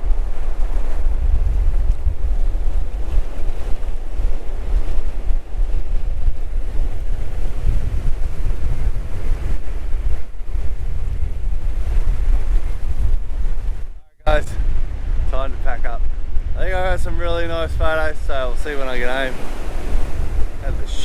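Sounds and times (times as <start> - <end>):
surf breaking on shore: 0.0 - 21.0
wind buffeting microphone: 0.0 - 21.0.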